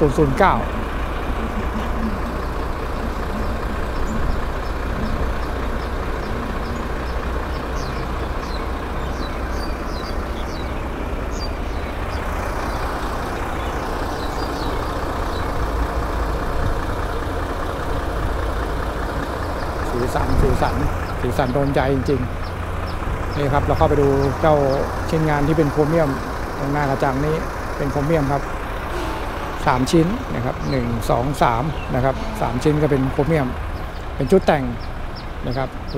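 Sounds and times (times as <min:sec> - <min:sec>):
truck diesel engine idling: 0:00.0 - 0:35.9.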